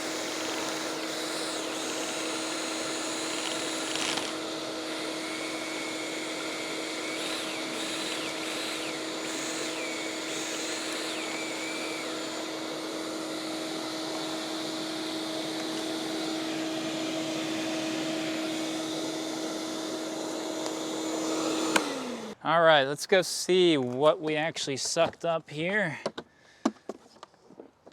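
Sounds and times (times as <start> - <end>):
shop vacuum running: 0.0 - 22.4.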